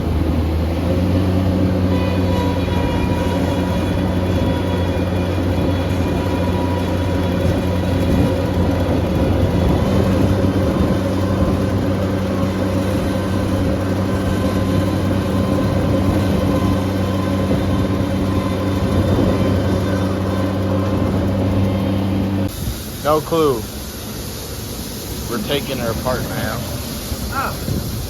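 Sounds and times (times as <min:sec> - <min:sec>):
skid steer engine running under load: 0:00.0 - 0:28.0.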